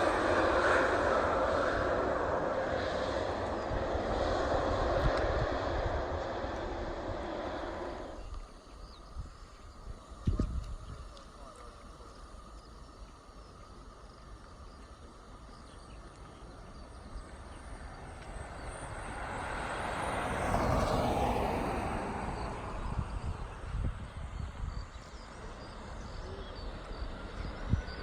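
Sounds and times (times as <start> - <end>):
airliner passing by: 0.0 - 28.0.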